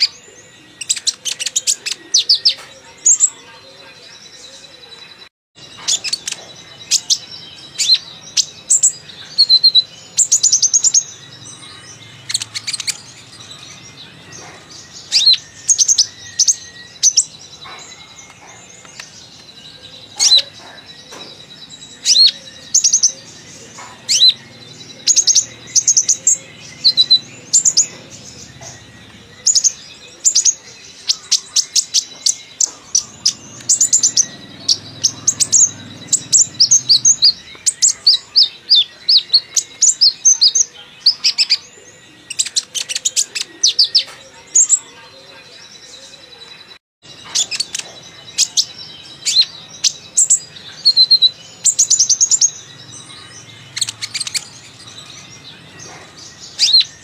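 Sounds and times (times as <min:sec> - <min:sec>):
sunbird singing high chirps: 0:00.0 - 0:57.0.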